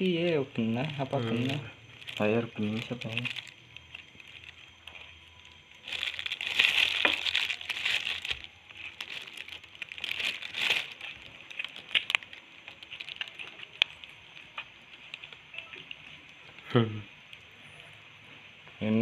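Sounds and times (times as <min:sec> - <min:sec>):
crinkling crackling rustle: 0:00.0 - 0:18.5.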